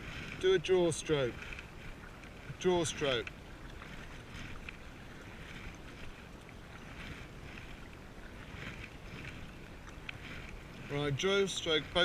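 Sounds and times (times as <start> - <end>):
paddle swishing water: 0.0 - 12.0
wind rumbling on microphone: 0.0 - 12.0.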